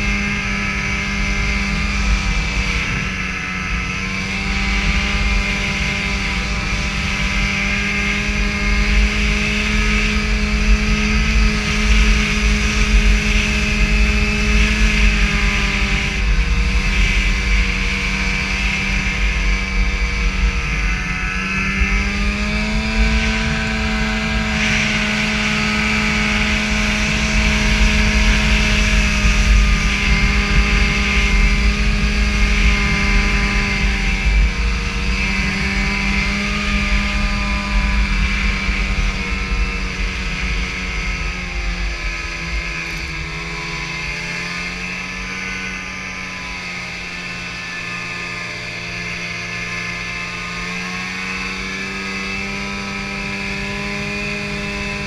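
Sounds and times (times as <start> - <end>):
snowmobile engine running: 0.0 - 55.0
wind rumble on microphone: 0.0 - 55.0.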